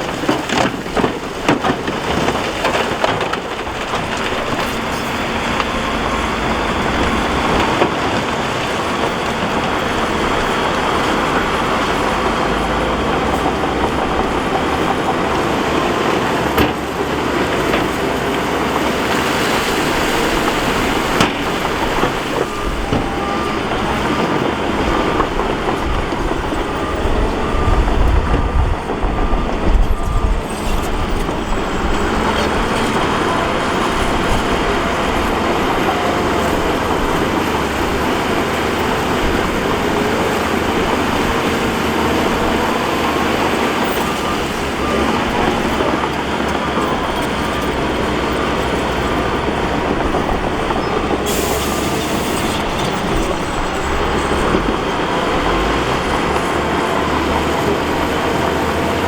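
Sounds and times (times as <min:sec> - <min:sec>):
diesel engines running under load: 0:00.0 - 0:59.0
rock and gravel scraping: 0:00.0 - 0:59.0.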